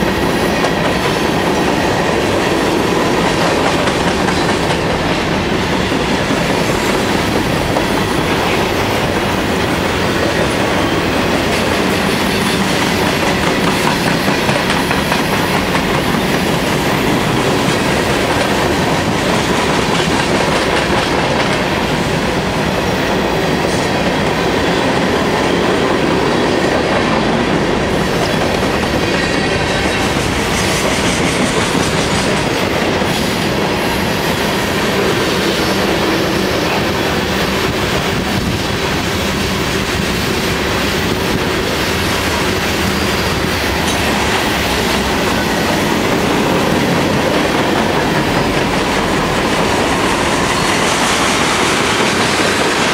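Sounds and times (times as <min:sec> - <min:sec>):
freight train wheels rolling on rails: 0:00.0 - 0:52.9.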